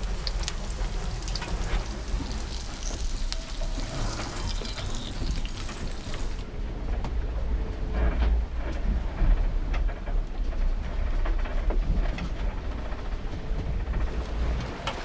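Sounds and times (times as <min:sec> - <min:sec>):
low rumble of hull through sea: 0:00.0 - 0:15.0.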